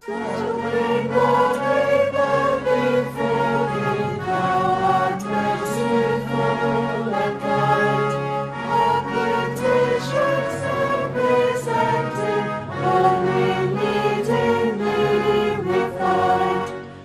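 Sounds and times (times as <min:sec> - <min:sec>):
instrumental accompaniment: 0:00.0 - 0:17.0
mixed choir singing a hymn: 0:00.0 - 0:17.0.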